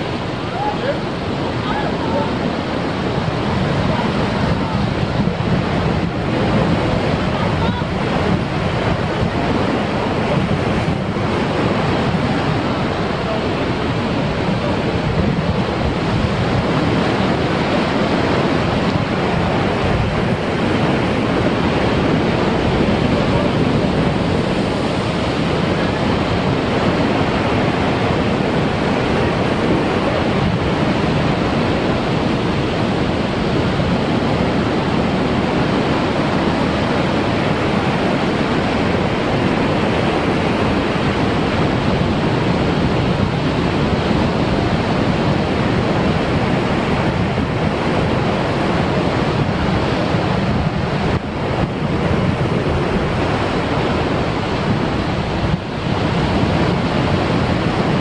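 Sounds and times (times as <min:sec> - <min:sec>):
surf breaking on rocks: 0:00.0 - 0:58.0.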